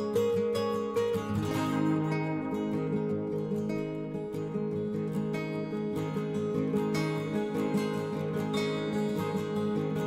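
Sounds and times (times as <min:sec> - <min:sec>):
instrumental music with plucked strings: 0:00.0 - 0:10.0.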